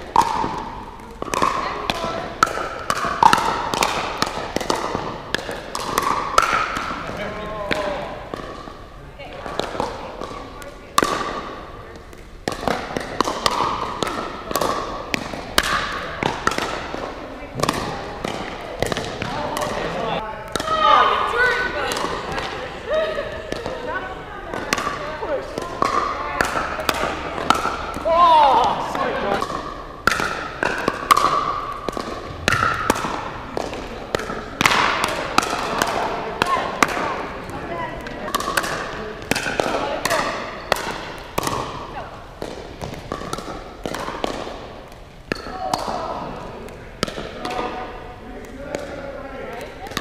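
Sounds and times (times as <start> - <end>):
paddles striking plastic ball: 0.0 - 8.8, 11.0 - 20.8, 24.5 - 50.0
ball bouncing on hard court: 0.0 - 22.7, 23.4 - 50.0.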